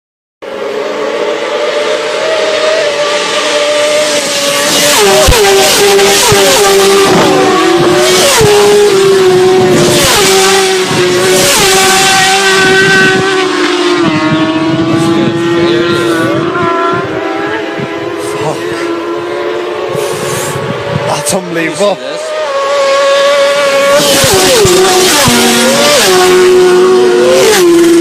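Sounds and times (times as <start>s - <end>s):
motorcycle engines revving: 0.4s - 28.0s.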